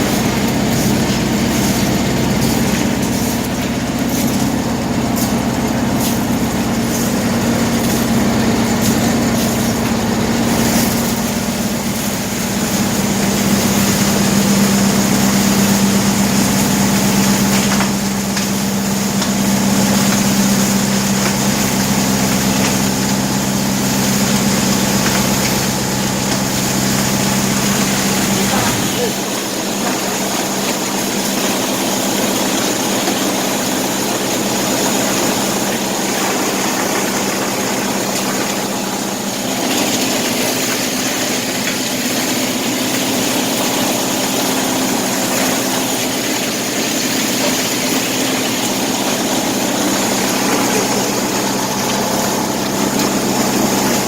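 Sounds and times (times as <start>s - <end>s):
machine mechanical drone: 0.0s - 54.0s.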